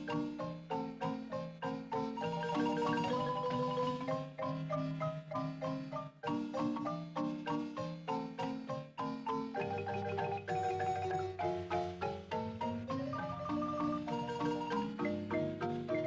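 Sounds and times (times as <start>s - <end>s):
instrumental folk music: 0.0s - 16.0s.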